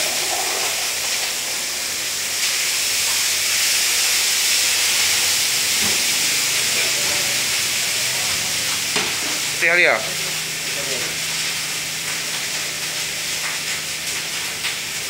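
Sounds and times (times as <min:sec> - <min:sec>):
loud steady hiss: 0:00.0 - 0:15.0.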